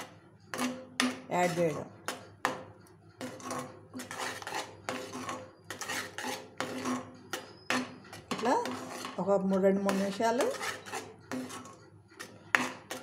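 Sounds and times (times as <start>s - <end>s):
metal ladle scraping a pan: 0.0s - 2.3s, 3.2s - 13.0s.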